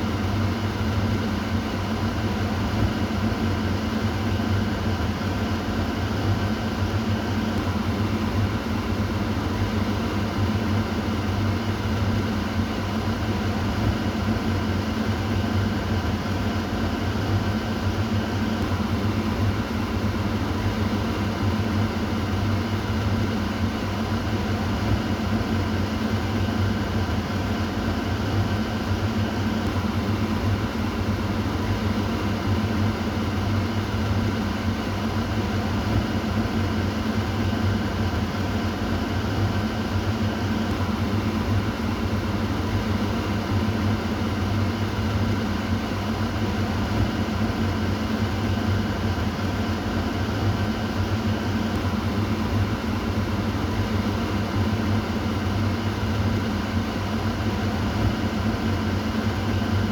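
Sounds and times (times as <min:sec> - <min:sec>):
exhaust fan running: 0:00.0 - 0:59.9.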